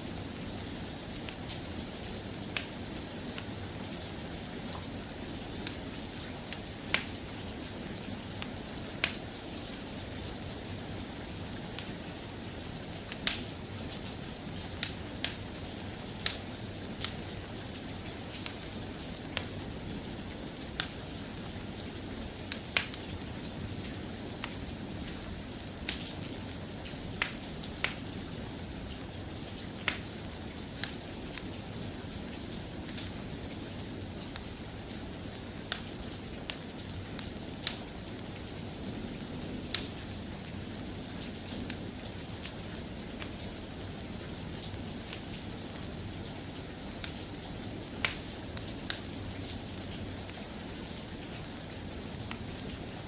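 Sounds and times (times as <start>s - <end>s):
steady rain: 0.0s - 53.0s
wood fire crackling: 0.2s - 53.0s.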